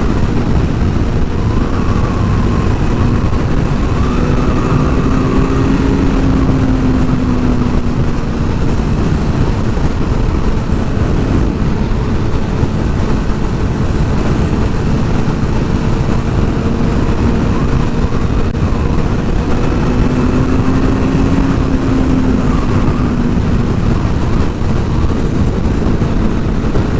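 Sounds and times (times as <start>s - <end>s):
motorcycle engine drone: 0.0s - 26.9s
wind buffeting microphone: 0.0s - 26.9s.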